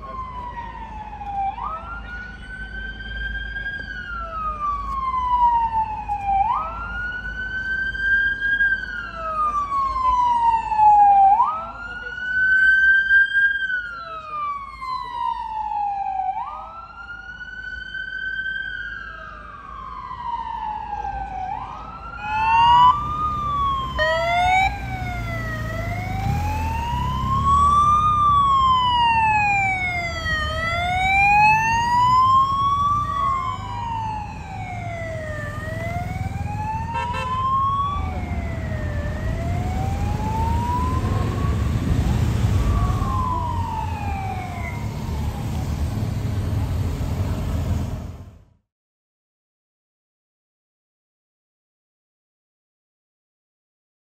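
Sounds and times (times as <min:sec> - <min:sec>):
police sirens wailing: 0:00.0 - 0:48.4
low vehicle rumble: 0:00.0 - 0:48.5.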